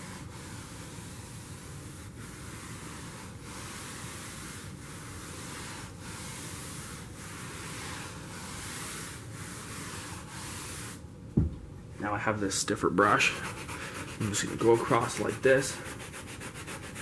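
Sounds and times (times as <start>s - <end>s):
scrub brush rasping on carpet: 0.0s - 11.0s, 13.2s - 17.0s.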